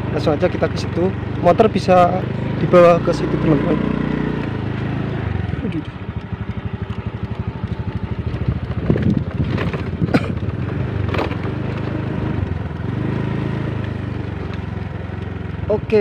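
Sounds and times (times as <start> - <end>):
small motorcycle engine: 0.0 - 16.0.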